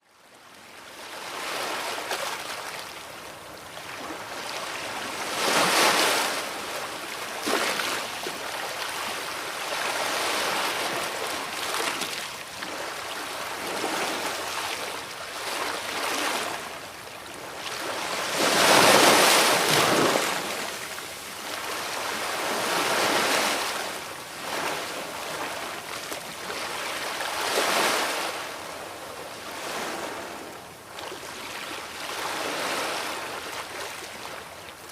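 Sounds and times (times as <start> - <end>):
sea waves breaking on shore: 1.0 - 34.9.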